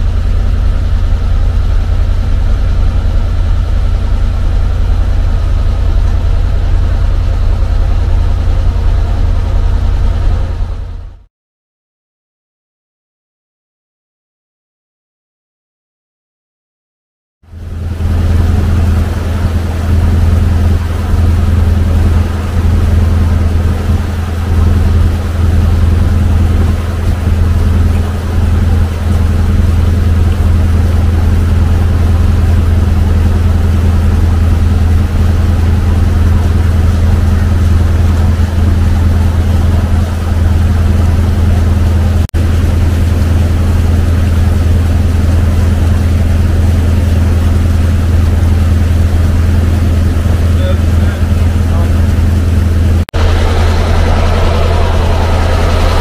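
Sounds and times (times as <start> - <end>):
boat engine droning: 0.0 - 11.3, 17.4 - 56.0.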